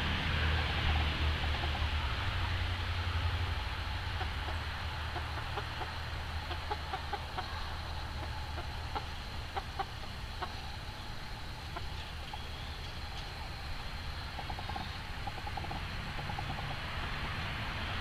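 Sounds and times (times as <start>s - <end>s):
chicken clucking: 0.7s - 2.2s, 4.1s - 17.1s.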